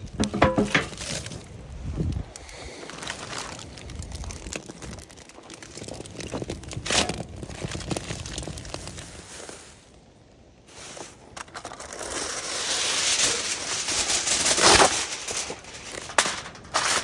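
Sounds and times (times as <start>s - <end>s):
foil crinkling: 0.1s - 9.8s, 10.7s - 17.0s.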